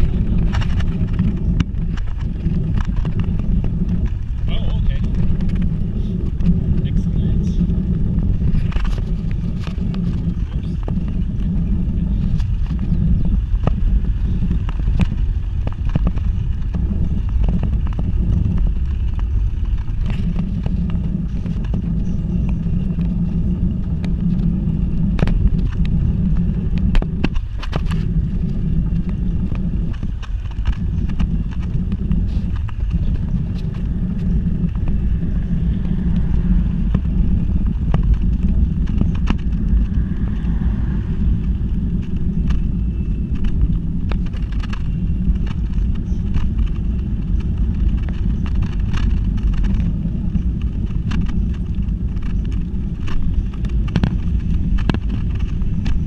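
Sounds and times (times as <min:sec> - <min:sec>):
tyres rumbling on asphalt: 0:00.0 - 0:56.0
wind on microphone: 0:00.0 - 0:56.0.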